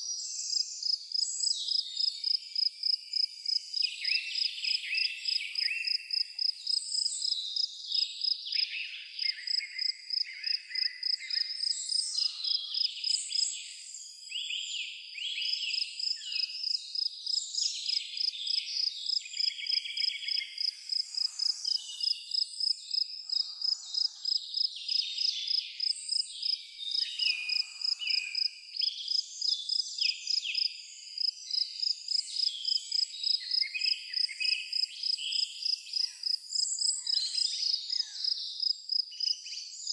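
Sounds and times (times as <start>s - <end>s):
cricket chirping: 0.0s - 14.4s, 15.4s - 39.9s
songbirds singing: 0.0s - 39.9s.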